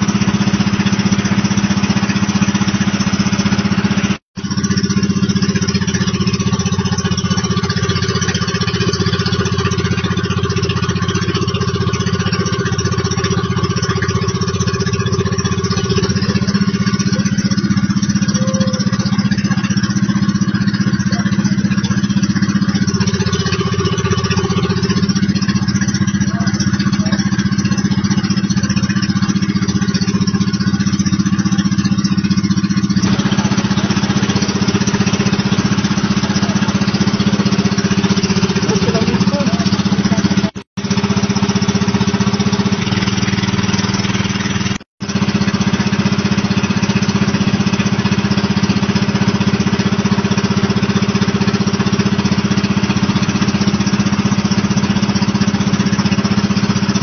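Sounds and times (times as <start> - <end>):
boat motor droning: 0.0 - 57.0.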